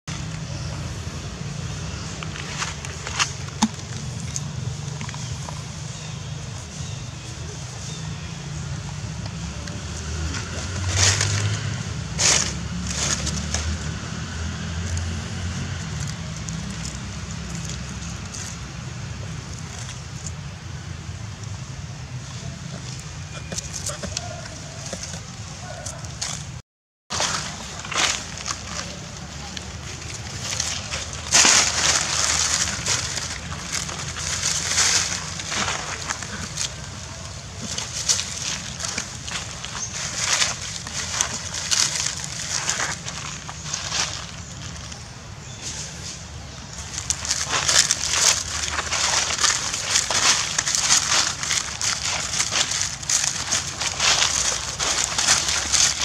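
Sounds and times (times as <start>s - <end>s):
dry leaves crackling: 0.1s - 56.0s.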